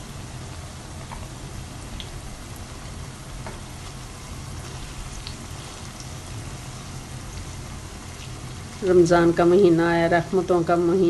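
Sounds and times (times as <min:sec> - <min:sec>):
pakoras sizzling in hot oil: 0:00.0 - 0:11.0.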